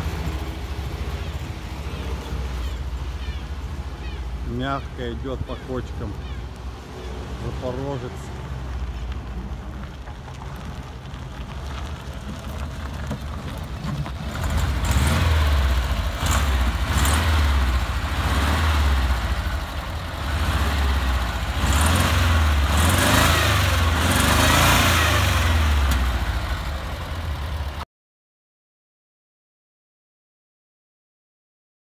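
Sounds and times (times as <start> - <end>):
car engine running: 0.0 - 27.8
road and wind noise: 0.0 - 27.8.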